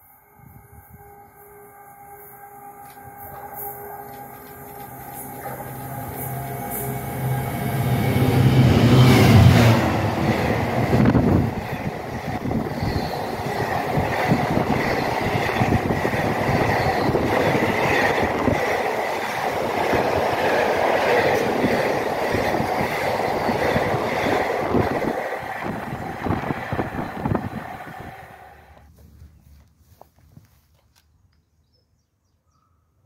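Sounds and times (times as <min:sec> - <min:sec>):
freight train rumbling past: 0:00.3 - 0:28.8.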